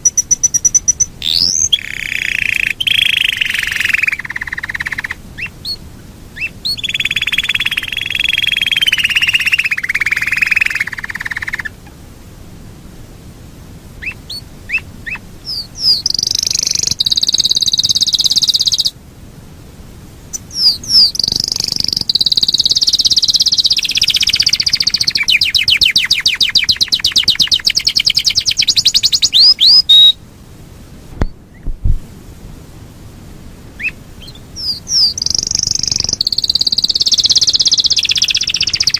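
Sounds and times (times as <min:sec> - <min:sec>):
canary singing trilling song: 0:00.0 - 0:05.8, 0:06.4 - 0:11.9, 0:14.0 - 0:19.0, 0:20.3 - 0:30.2, 0:33.8 - 0:38.9.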